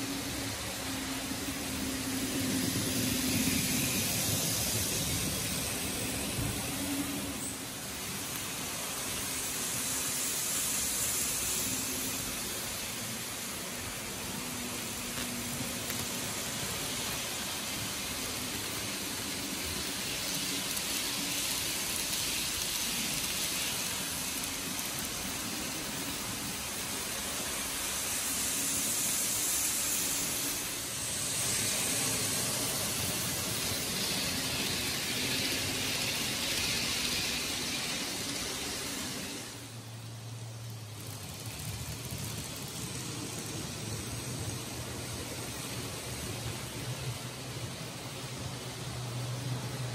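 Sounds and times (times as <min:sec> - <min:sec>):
model train wheels rolling on rails: 0:00.0 - 0:49.9.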